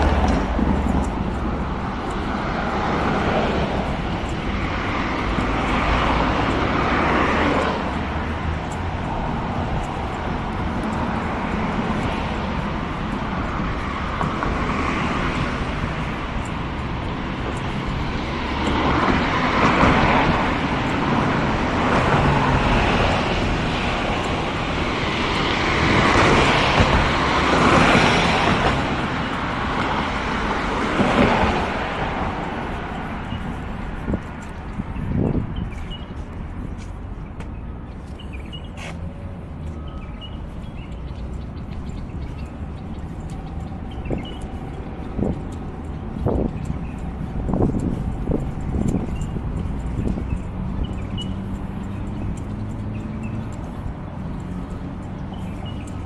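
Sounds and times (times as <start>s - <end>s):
road traffic rumble: 0.0s - 56.0s
vehicles passing: 0.0s - 56.0s.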